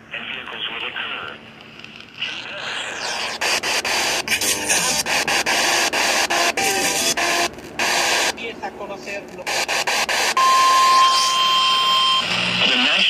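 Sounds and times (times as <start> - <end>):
crackling radio static: 0.1 - 13.0.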